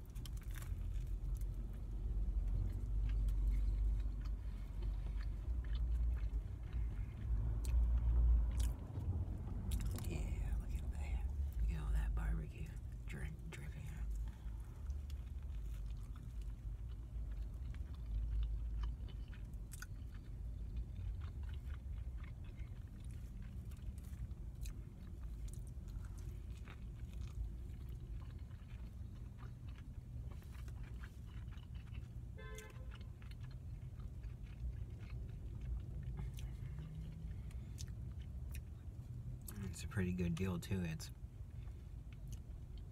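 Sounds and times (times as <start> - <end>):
person chewing with mouth clicks: 0.0 - 40.4, 41.6 - 42.9
steady low hum: 0.0 - 42.9.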